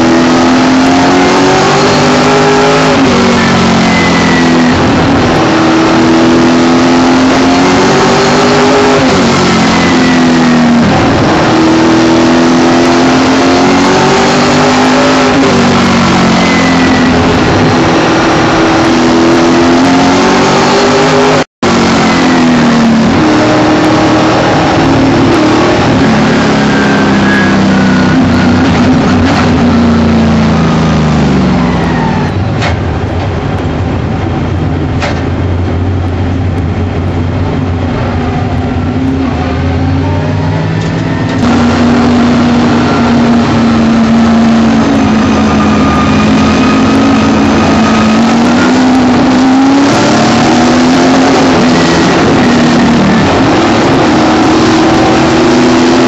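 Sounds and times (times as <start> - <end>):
race car engine at speed: 0.0 - 56.0.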